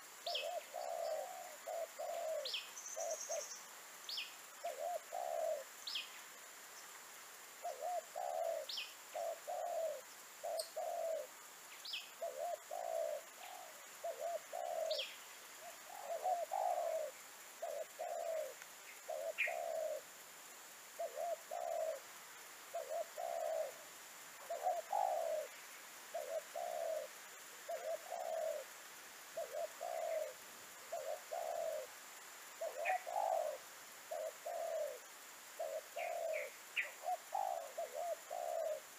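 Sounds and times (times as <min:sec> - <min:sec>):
small birds chirping: 0:00.0 - 0:07.0, 0:07.6 - 0:20.1, 0:22.7 - 0:23.8, 0:24.4 - 0:28.7, 0:29.3 - 0:35.0, 0:35.6 - 0:38.9
dove cooing: 0:00.2 - 0:03.4, 0:04.6 - 0:05.8, 0:07.6 - 0:11.3, 0:12.2 - 0:20.2, 0:21.0 - 0:22.1, 0:22.7 - 0:23.8, 0:24.4 - 0:32.0, 0:32.6 - 0:38.9.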